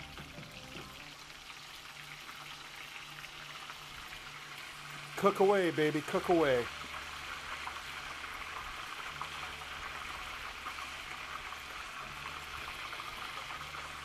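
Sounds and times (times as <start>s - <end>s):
oil sizzling and bubbling: 0.0s - 14.0s.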